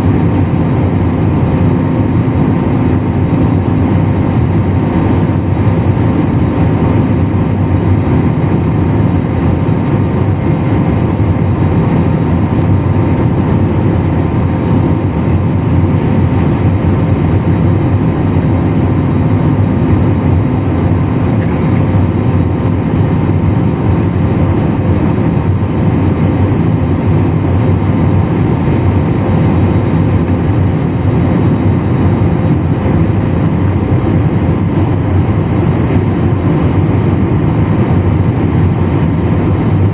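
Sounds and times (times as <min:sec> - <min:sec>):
jet engines in cabin: 0:00.0 - 0:39.9.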